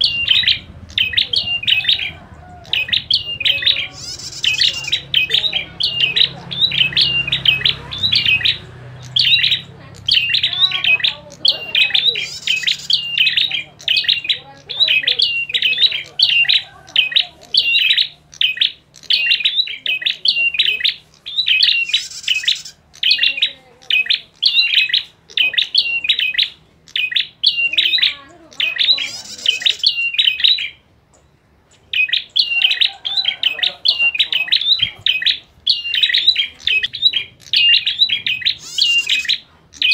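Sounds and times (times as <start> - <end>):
bird sharp repeated chirps: 0.0 - 39.9.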